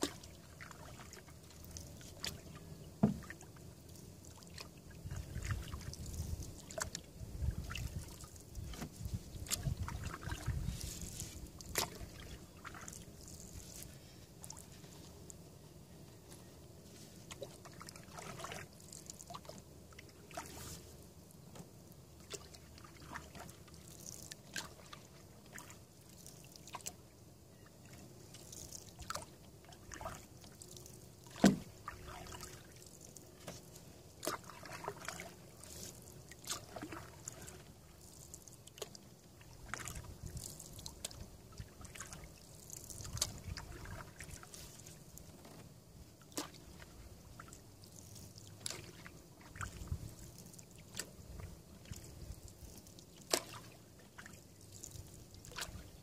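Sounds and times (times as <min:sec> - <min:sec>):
paddle strokes in water: 0:00.0 - 0:15.4, 0:16.3 - 0:27.0, 0:27.8 - 0:56.0.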